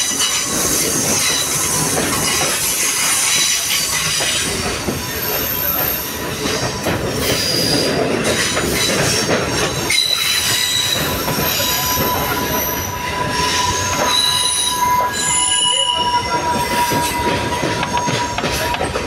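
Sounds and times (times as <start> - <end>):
train rumble and rattle: 0.0 - 19.0
train wheels squealing: 0.0 - 19.0.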